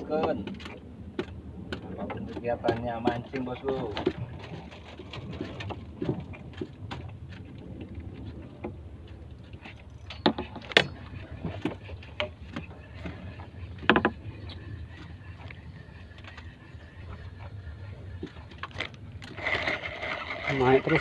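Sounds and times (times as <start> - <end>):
water washing against hull: 0.0 - 21.0.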